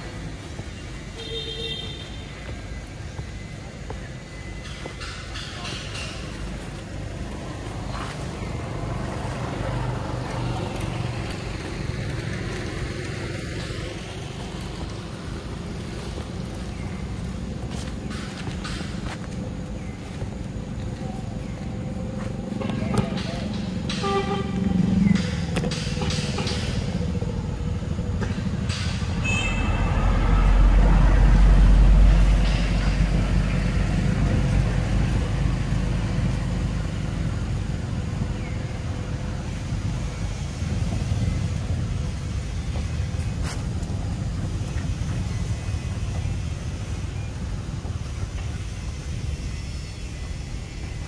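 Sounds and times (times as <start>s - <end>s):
low rumble of passing traffic: 0.0s - 51.0s.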